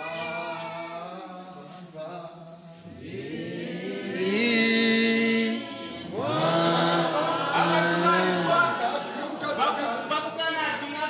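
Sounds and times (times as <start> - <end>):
choir chanting: 0.0 - 10.4.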